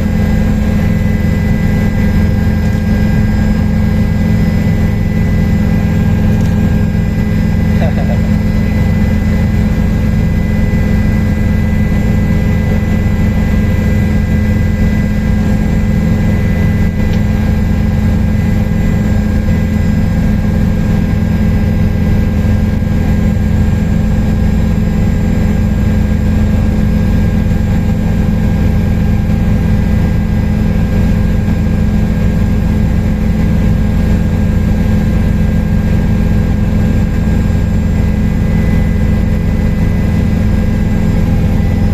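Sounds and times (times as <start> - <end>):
helicopter engine and rotor drone: 0.0 - 41.9
steady high whine: 0.0 - 41.9.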